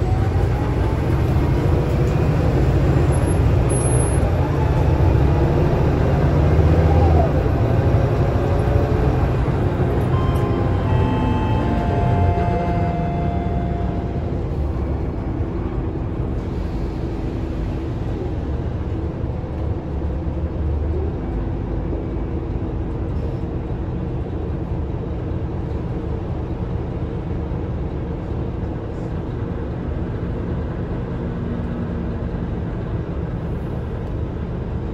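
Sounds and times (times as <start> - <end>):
bus engine rumbling: 0.0 - 34.9.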